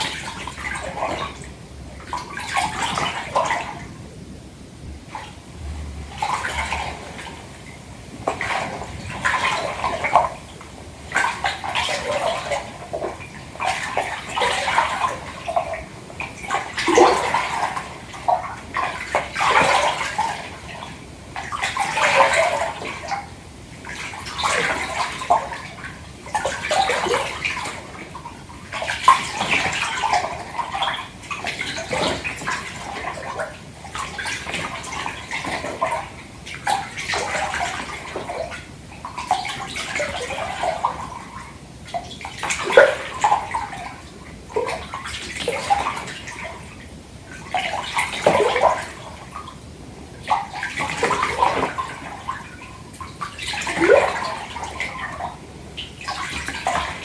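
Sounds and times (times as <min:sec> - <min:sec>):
bath water sloshing: 0:00.0 - 0:04.2, 0:04.8 - 0:57.0.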